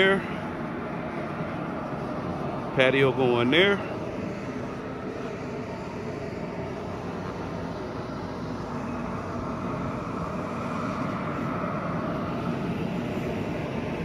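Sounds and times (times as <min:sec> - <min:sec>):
vacuum droning: 0:00.0 - 0:14.0.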